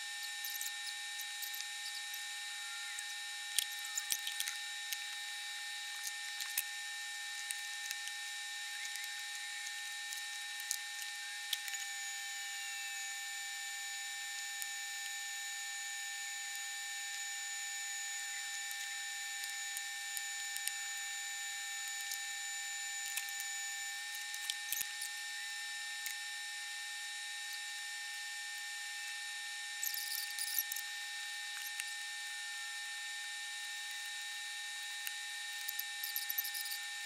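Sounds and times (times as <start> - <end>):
heat gun fan whine: 0.0 - 37.0.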